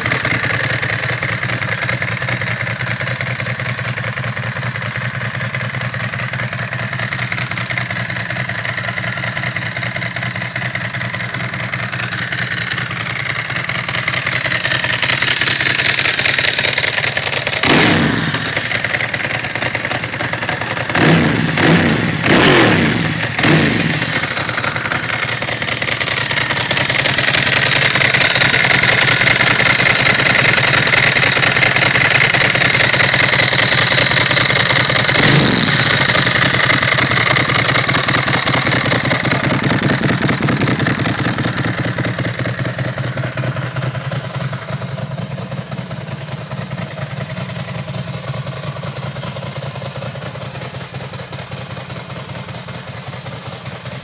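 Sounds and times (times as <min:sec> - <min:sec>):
dry clutch rattling: 0:00.0 - 0:21.2, 0:23.0 - 0:54.0
motorcycle engine idling: 0:00.0 - 0:54.0.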